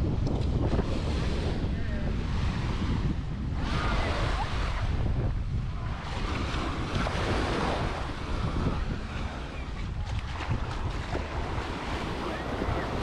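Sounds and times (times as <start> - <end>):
surf washing onto sandy beach: 0.0 - 13.0
wind buffeting microphone: 0.0 - 13.0.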